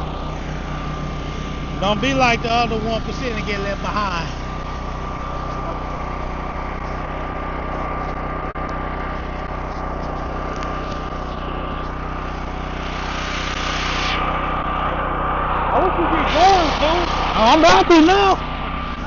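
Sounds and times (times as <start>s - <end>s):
constant high whine: 0.0s - 19.0s
small engine running: 0.0s - 19.0s.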